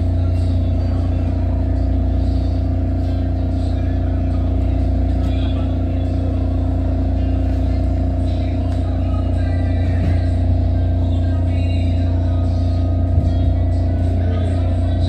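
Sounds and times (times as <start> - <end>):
constant hum: 0.0 - 15.0
subway train low rumble: 0.0 - 15.0.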